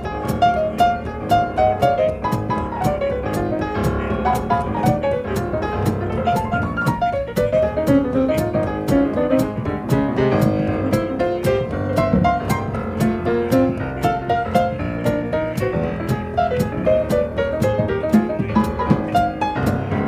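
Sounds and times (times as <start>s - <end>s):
drums cymbal beat: 0.0s - 20.0s
piano: 0.0s - 20.0s
walking double bass: 0.0s - 20.0s.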